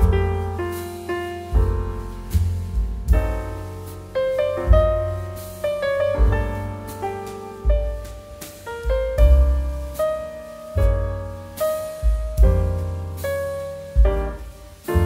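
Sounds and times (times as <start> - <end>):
background piano chords: 0.0 - 15.0.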